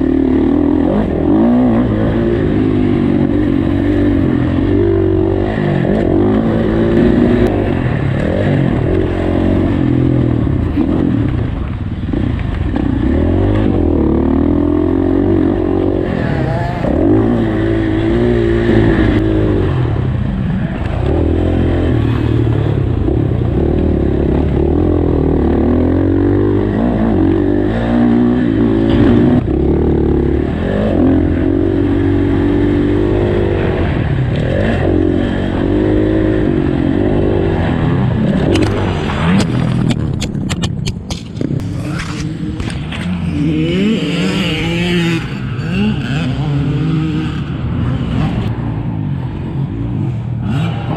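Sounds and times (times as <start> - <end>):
dirt bike engine revving: 0.0 - 40.2, 41.0 - 50.9.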